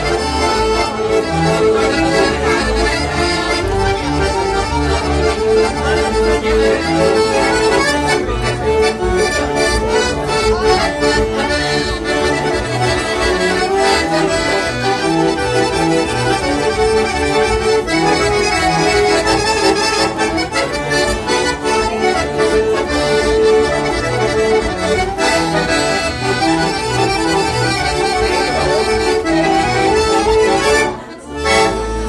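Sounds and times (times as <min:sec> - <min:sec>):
accordion duet: 0:00.0 - 0:32.0.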